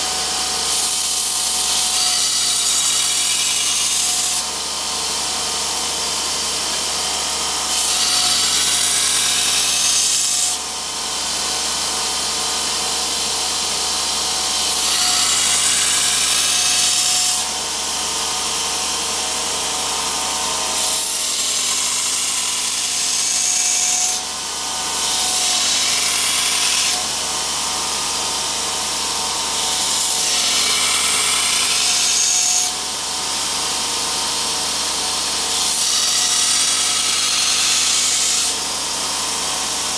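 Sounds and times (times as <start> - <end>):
belt grinder grinding steel: 0.0 - 10.6, 14.4 - 17.6, 19.8 - 39.9.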